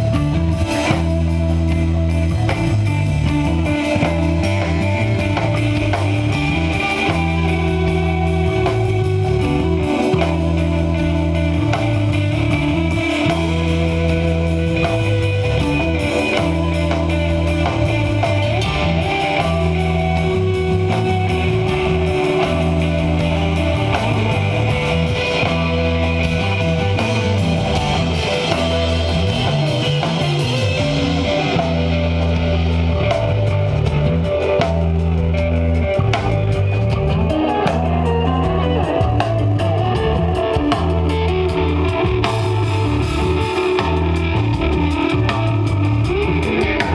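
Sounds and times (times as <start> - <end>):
bass sustained notes: 0.0 - 46.9
drum kit cymbals: 0.0 - 46.9
electric guitar lines: 0.0 - 46.9.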